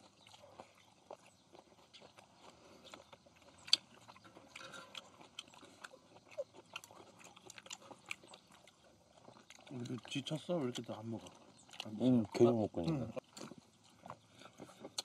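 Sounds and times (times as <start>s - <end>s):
people chewing and eating: 0.0s - 15.0s.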